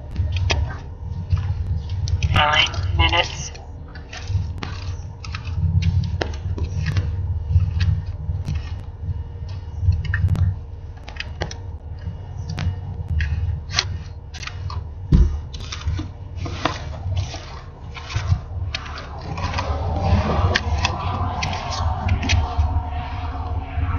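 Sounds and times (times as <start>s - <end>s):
steady low rumble: 0.0s - 23.9s.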